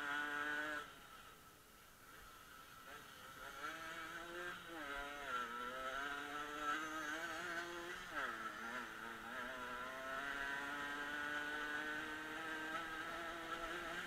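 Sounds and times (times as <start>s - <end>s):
dirt bike engine: 0.0s - 14.0s.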